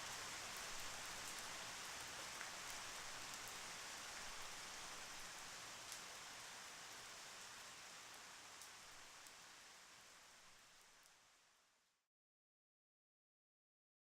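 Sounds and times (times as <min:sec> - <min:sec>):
steady rain hiss: 0:00.0 - 0:12.1.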